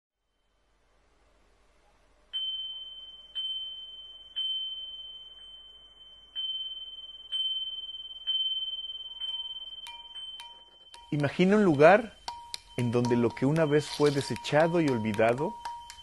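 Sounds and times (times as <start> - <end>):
lower ringing tone: 2.3 - 16.0
small metal bell ringing: 2.4 - 16.0.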